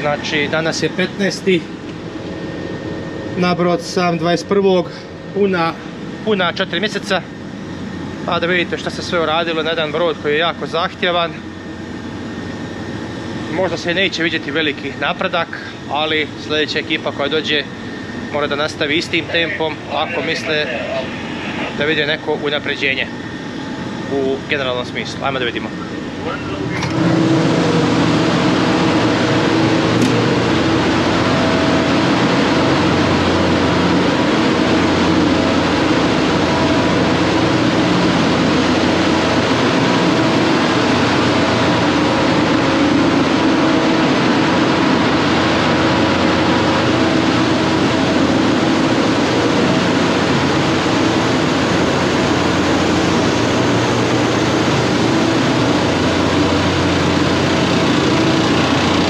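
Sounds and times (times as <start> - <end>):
engine room machinery drone: 0.0 - 59.0
steady machinery hums: 0.0 - 59.0.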